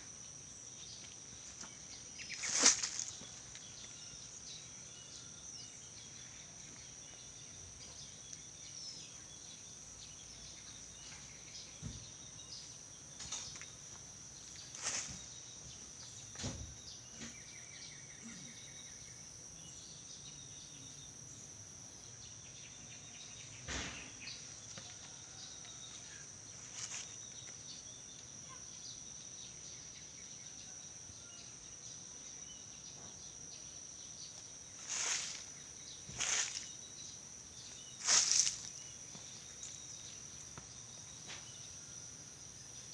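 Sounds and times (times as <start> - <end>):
insect chorus: 0.0 - 42.9.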